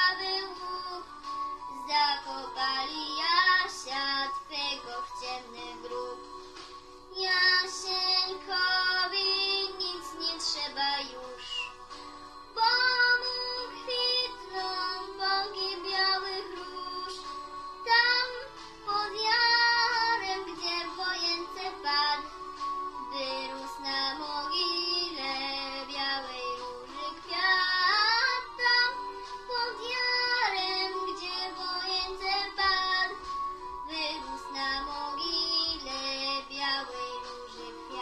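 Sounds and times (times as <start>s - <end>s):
girl singing: 0.0s - 6.4s, 7.1s - 38.0s
musical accompaniment: 0.0s - 38.0s.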